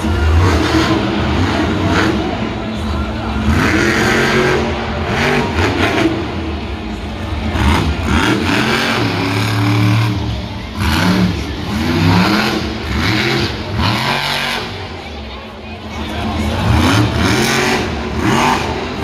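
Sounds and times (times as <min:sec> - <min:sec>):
truck engine revving hard: 0:00.0 - 0:15.2, 0:15.8 - 0:19.0.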